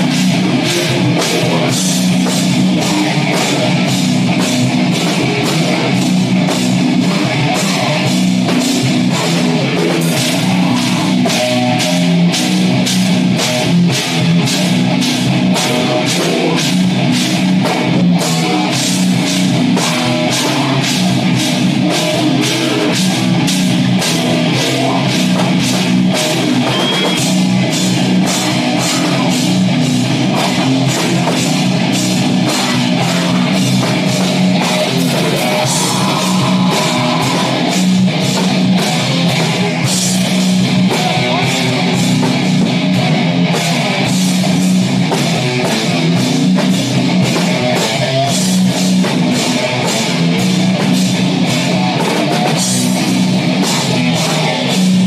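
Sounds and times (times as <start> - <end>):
distorted guitar and bass: 0.0 - 55.0
drum kit fast beat: 0.0 - 55.0.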